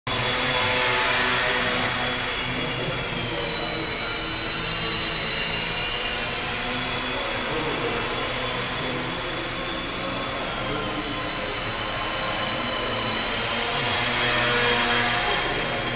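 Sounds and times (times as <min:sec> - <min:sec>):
model airplane motors whining: 0:00.1 - 0:15.9.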